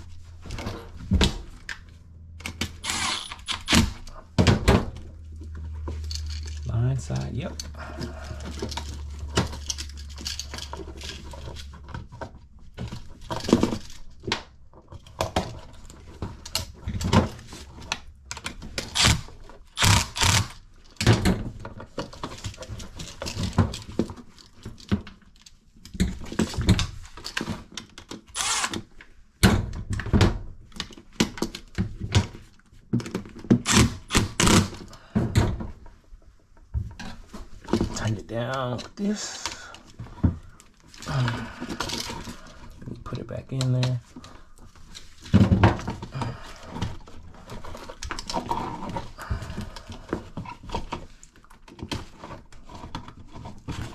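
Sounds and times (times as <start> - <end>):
clicks rattles and knocks of wiring: 0.0 - 53.9.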